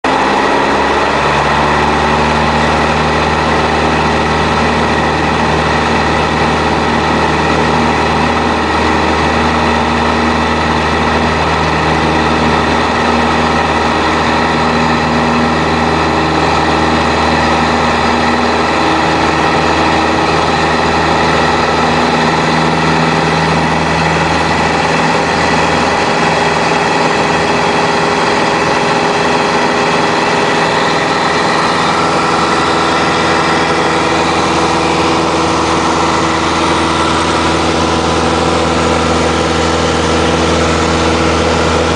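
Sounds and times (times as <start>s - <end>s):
propeller aircraft engine drone: 0.0s - 41.9s.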